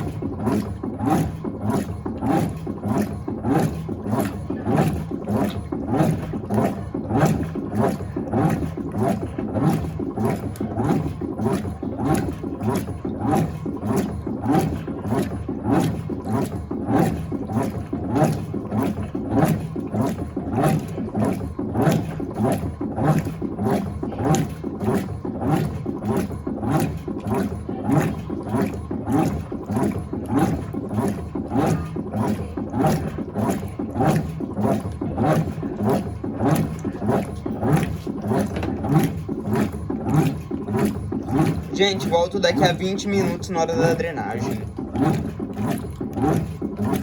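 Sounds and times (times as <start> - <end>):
washing machine sloshing water: 0.0 - 47.0.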